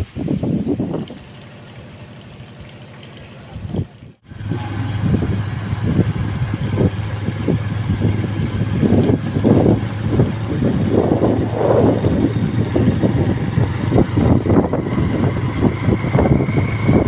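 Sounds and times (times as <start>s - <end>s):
gusty wind buffeting microphone: 0.0s - 1.3s, 3.6s - 17.0s
steady low hum: 1.0s - 17.0s.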